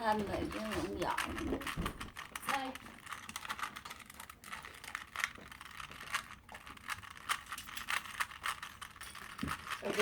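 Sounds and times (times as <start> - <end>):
puzzle cube plastic clicks: 0.0 - 10.0.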